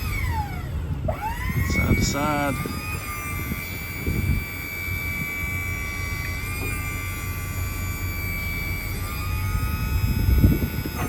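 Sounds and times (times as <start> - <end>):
hydraulic crane whine: 0.0 - 11.0.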